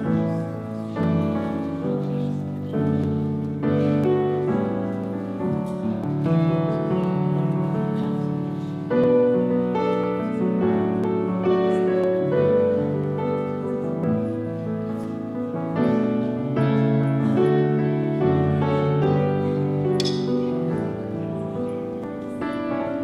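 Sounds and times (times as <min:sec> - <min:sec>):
grand piano chords: 0:00.0 - 0:23.0.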